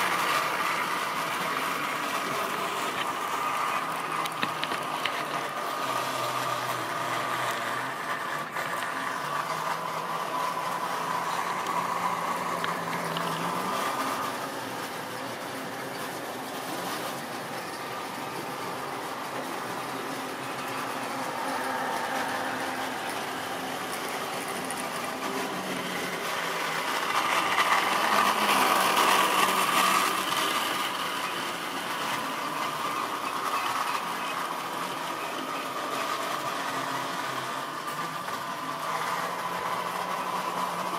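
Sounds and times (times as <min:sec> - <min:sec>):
model train motor whine: 0:00.0 - 0:40.9
model train wagons rattling: 0:00.0 - 0:40.9.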